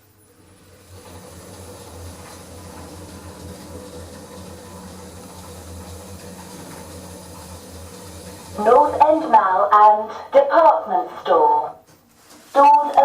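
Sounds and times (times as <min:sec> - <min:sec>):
faint hiss of moving lift: 0:00.0 - 0:13.0
lift humming: 0:00.0 - 0:13.0.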